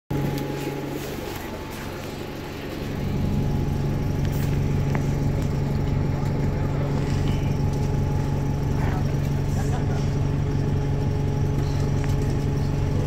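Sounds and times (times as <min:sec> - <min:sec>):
bus engine drone from inside: 0:00.1 - 0:13.0.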